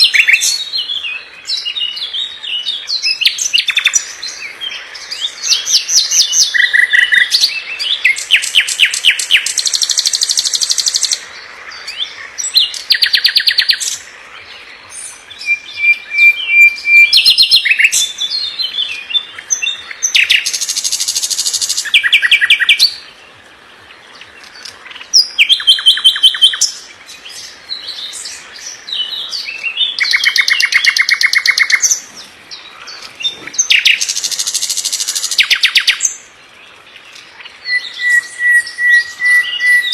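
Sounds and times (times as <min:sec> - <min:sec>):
bird singing rapid trills: 0:00.0 - 0:11.2, 0:11.8 - 0:23.1, 0:24.4 - 0:36.3.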